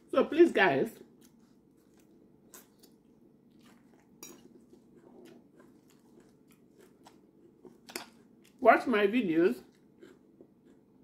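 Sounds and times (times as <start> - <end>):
chewing salad: 0.4 - 8.9, 9.5 - 11.0.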